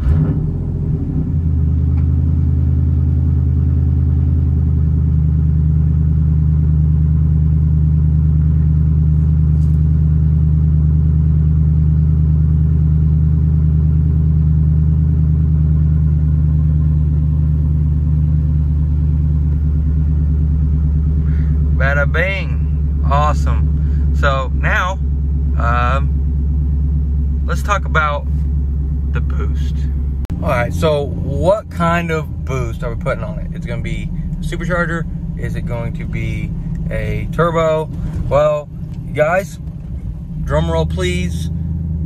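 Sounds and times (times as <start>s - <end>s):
truck engine starting and idling: 0.0s - 42.0s.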